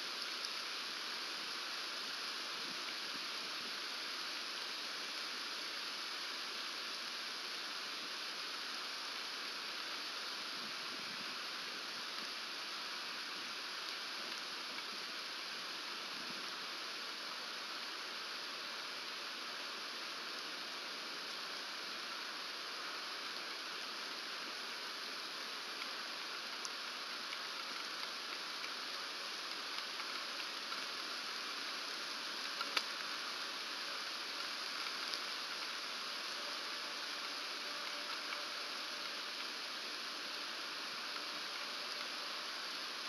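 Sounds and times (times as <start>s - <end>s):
rain hissing on branches: 0.0s - 43.0s.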